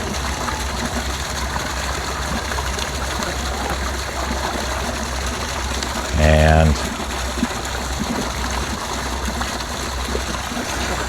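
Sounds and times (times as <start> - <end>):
water pouring into a tank: 0.0 - 11.0.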